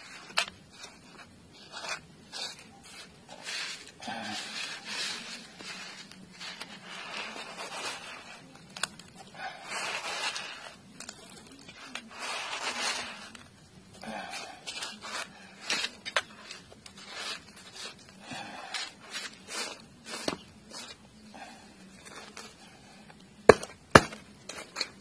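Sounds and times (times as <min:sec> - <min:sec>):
hands scraping coarse sand: 0:00.0 - 0:08.6, 0:09.4 - 0:13.4, 0:14.0 - 0:22.6.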